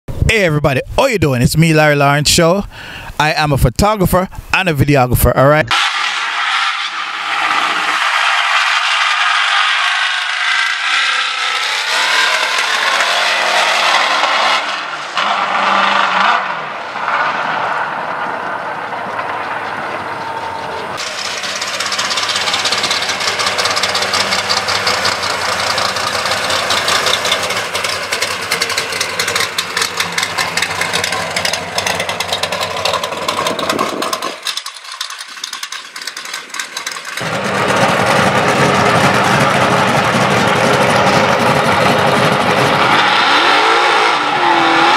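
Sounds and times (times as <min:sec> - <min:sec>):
race car engines revving: 0:05.7 - 0:44.9.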